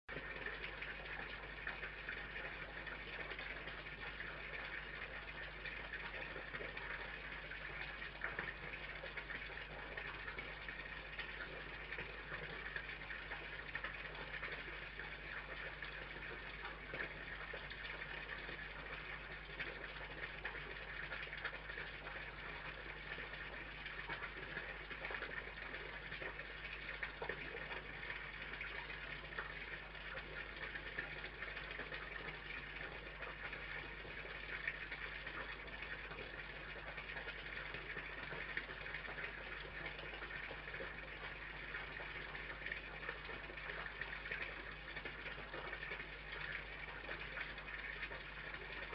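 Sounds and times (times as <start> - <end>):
low electrical hum: 0.1 - 48.9.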